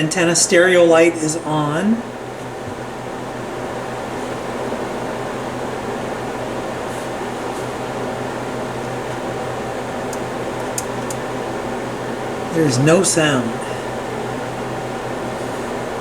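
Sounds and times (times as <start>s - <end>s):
heater whirring: 0.0s - 16.0s.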